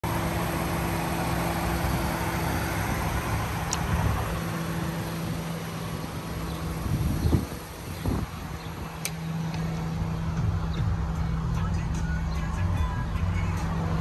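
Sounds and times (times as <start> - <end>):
car engine idling: 0.0 - 14.0
traffic noise: 0.0 - 14.0.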